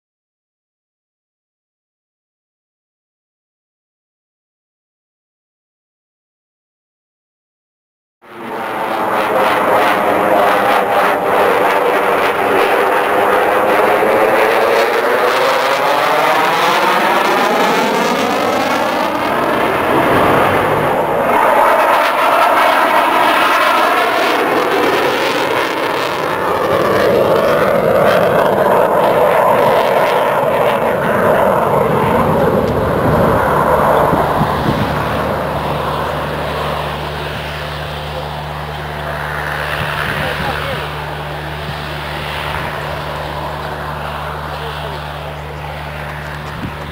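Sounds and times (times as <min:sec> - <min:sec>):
jet engines roaring overhead: 0:08.2 - 0:46.9.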